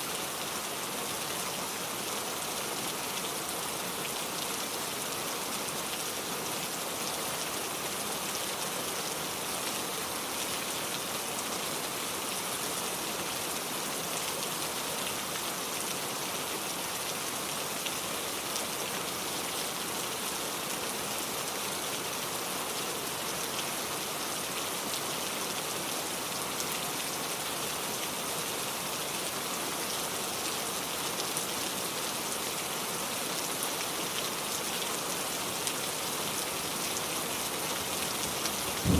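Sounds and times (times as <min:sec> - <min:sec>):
rain pattering on surfaces: 0:00.2 - 0:38.9.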